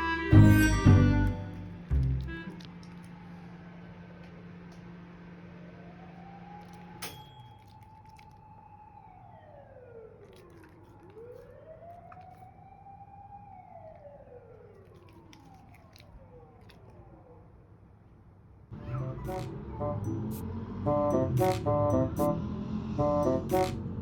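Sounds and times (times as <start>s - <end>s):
faint ambulance siren wailing: 0.0s - 4.8s, 5.6s - 7.1s, 7.8s - 17.8s, 18.8s - 24.0s.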